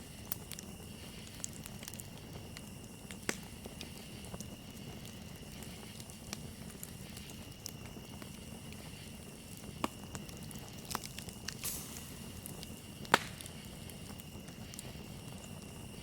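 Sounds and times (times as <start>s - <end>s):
campfire crackling and popping: 0.0s - 16.0s
cricket trill: 0.0s - 16.0s.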